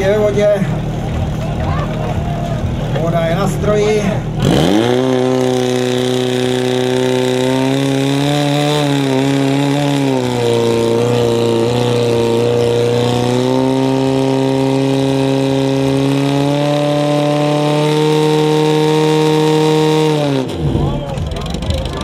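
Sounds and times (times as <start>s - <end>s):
pump engine running at high revs: 0.0s - 22.0s.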